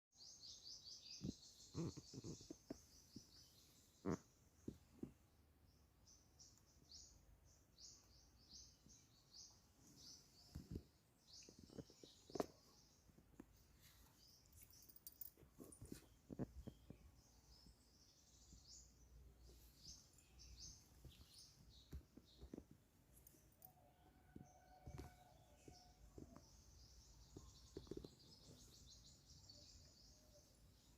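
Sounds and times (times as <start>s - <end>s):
birds chirping: 0.2s - 5.1s, 5.8s - 23.8s, 24.6s - 30.9s.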